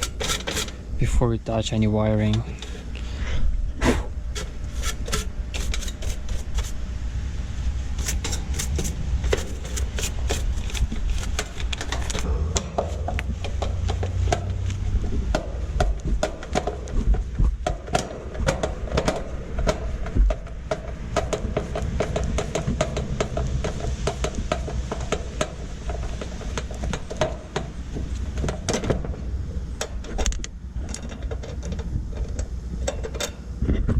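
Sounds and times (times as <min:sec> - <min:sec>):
stiff brush scrubbing metal: 0:00.0 - 0:03.2, 0:03.8 - 0:06.9, 0:07.9 - 0:30.1
low steady rumble: 0:00.0 - 0:33.9.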